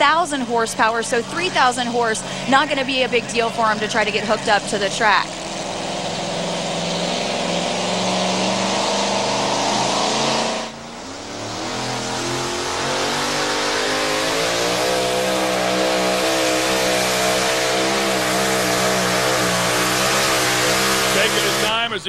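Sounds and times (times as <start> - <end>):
pulling truck engine at full throttle: 0.0 - 22.0.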